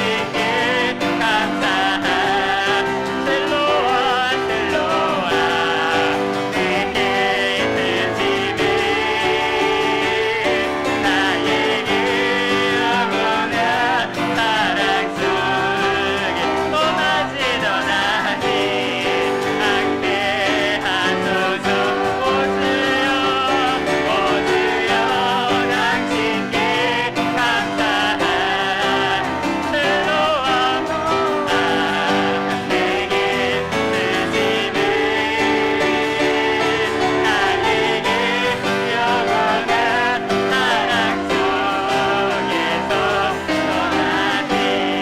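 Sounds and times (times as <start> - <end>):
piano accompaniment: 0.0 - 45.0
vocalists singing with vibrato: 0.0 - 45.0.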